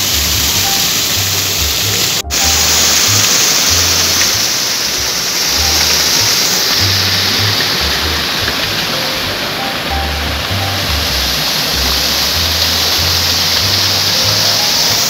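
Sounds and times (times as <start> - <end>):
background music with bass line: 0.0 - 15.0
waterfall rushing over rocks: 0.0 - 15.0.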